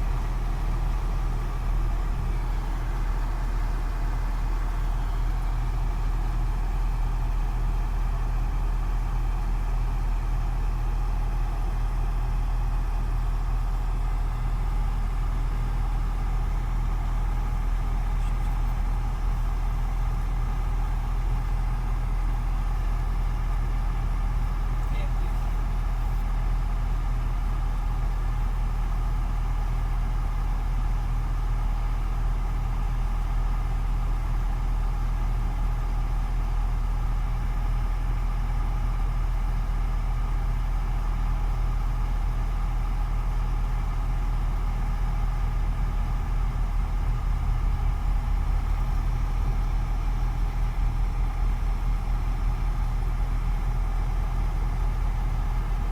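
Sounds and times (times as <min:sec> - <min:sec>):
truck engine drone from cab: 0:00.0 - 0:55.9.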